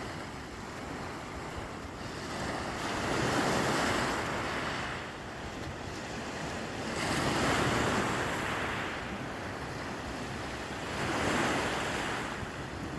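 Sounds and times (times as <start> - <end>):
sea waves washing onto shore: 0.0 - 12.9.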